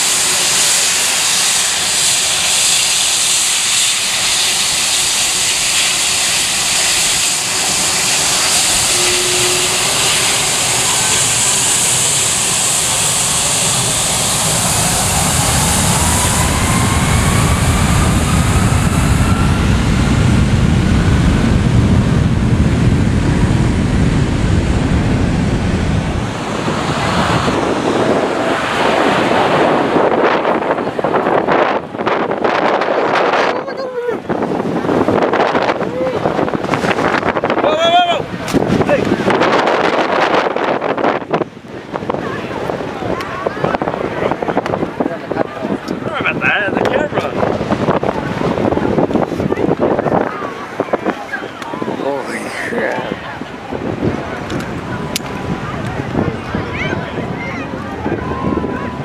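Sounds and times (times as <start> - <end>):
jet engine rumble: 0.0 - 59.0
jet engines whining: 0.0 - 59.0
wind noise on microphone: 0.0 - 59.0.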